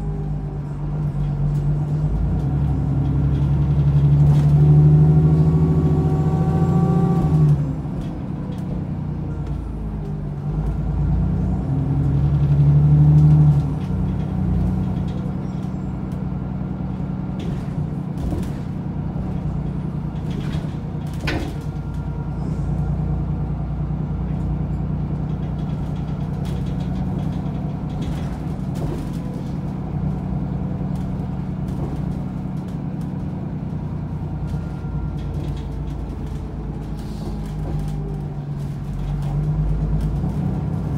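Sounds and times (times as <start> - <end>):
bus body rattles and clicks: 0.0 - 40.9
bus engine pulling: 0.0 - 40.9.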